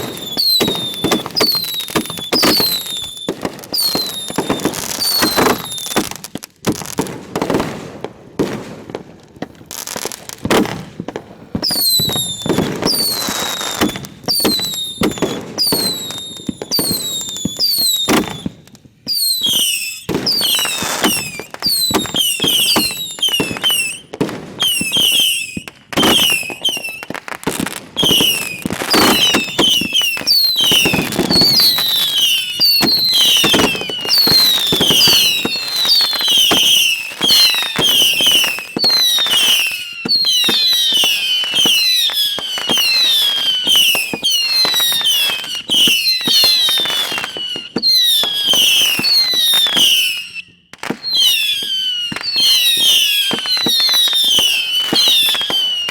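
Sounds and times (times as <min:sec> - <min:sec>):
falling firework whistles: 0:00.0 - 0:07.8, 0:09.7 - 0:55.9
fireworks bangs and crackling: 0:00.0 - 0:55.9.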